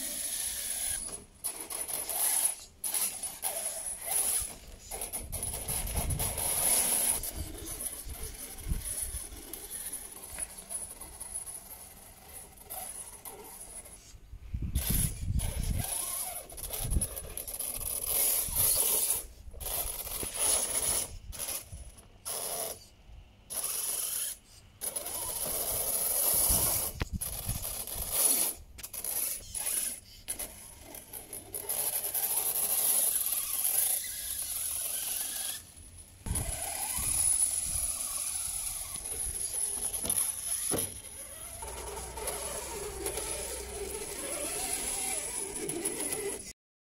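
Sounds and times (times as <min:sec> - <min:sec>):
toy car motor and gears whirring: 0:00.0 - 0:46.6.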